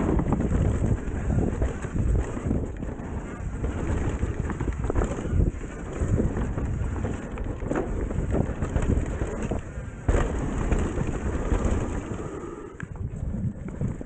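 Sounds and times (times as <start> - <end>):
bike knocks and rattles: 0.0 - 12.3
tyres rumbling over dirt: 0.0 - 13.6
wind buffeting microphone: 0.0 - 14.0.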